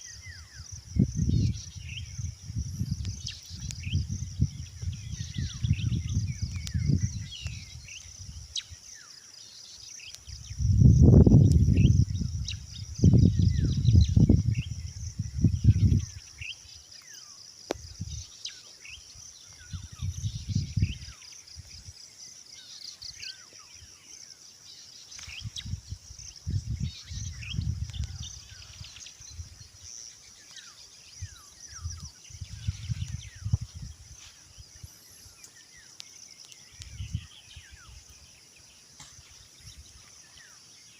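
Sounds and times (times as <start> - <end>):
bird chirps: 3.0 - 40.9.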